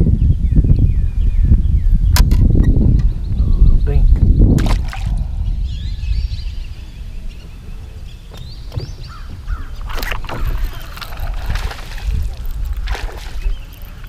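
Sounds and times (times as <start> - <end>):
steady low rumble: 0.0 - 14.0
birds calling: 0.4 - 14.0.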